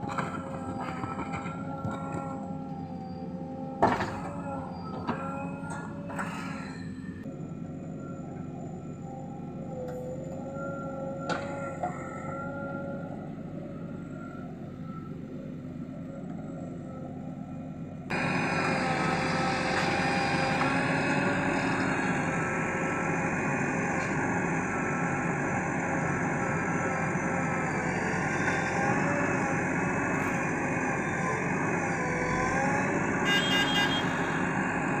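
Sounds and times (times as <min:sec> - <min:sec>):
diesel engine running under load: 0:00.0 - 0:35.0.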